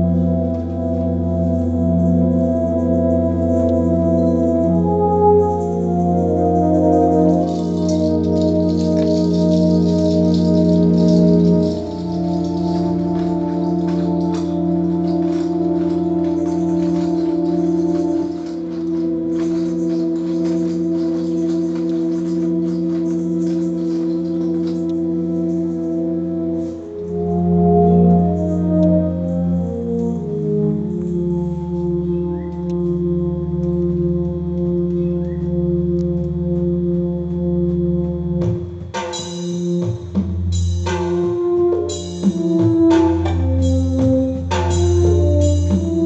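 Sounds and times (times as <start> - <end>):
electronic keyboard chord drone: 0.0 - 46.0.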